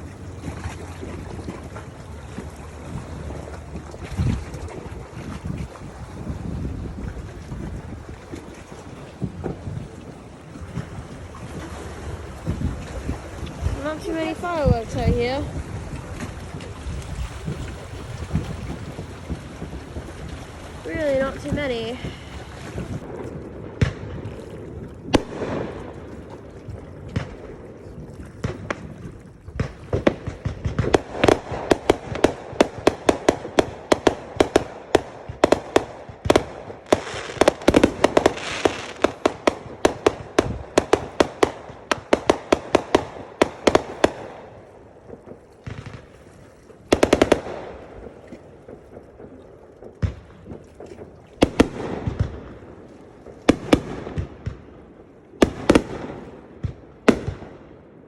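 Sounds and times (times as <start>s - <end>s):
fireworks bangs and crackling pops: 3.7s - 58.0s.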